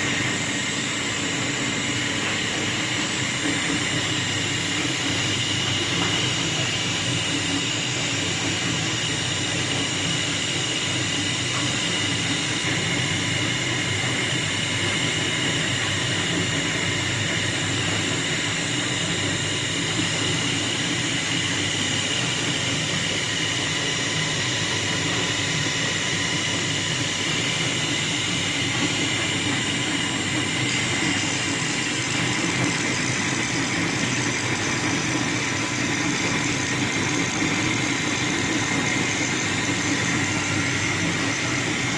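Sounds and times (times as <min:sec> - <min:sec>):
wood lathe humming and whining: 0:00.0 - 0:41.9.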